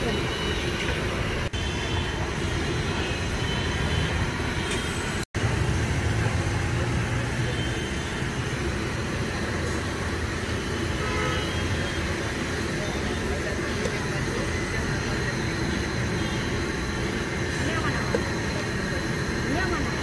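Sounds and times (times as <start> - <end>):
road traffic roar: 0.0 - 20.0.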